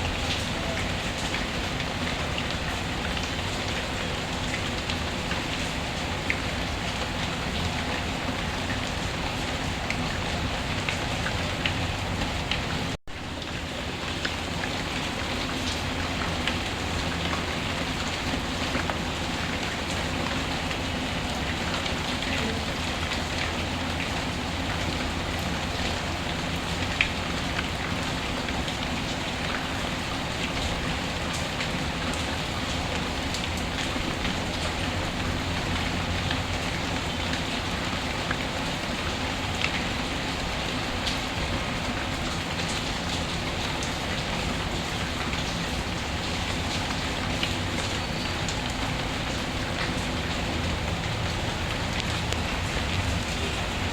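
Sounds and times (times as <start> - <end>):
steady rainfall: 0.0 - 53.9.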